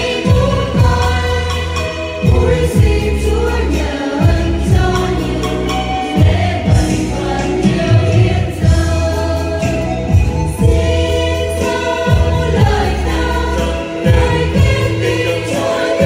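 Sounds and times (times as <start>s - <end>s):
choir singing a hymn: 0.0s - 16.0s
instrumental accompaniment: 0.0s - 16.0s.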